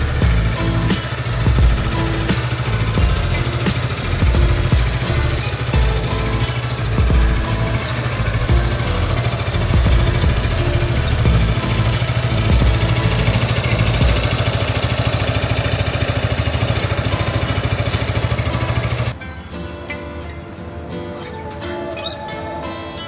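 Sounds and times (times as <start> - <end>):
motorcycle engine idling: 0.0 - 19.2
guitar music: 0.0 - 23.0.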